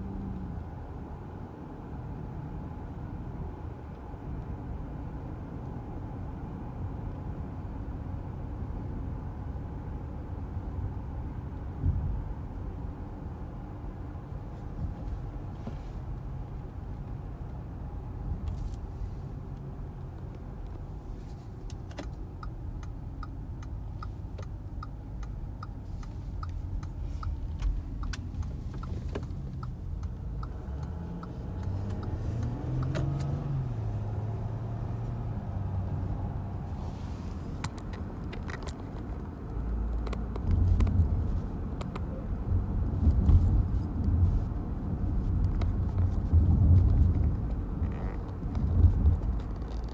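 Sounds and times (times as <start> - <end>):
car road and engine rumble: 0.0 - 49.9
turn signal ticking: 3.6 - 49.9.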